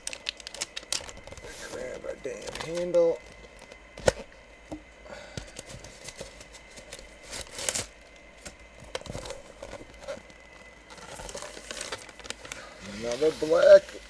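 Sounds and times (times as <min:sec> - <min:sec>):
plastic and paper crinkling: 0:00.0 - 0:04.2, 0:05.5 - 0:14.0.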